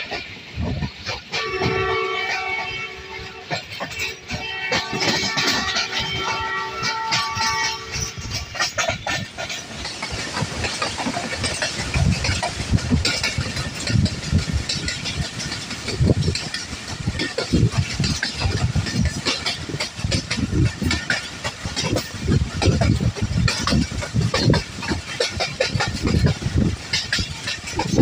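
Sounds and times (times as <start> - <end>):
train rumble and hiss: 0.0 - 28.0
wheels clattering over rails: 0.0 - 28.0.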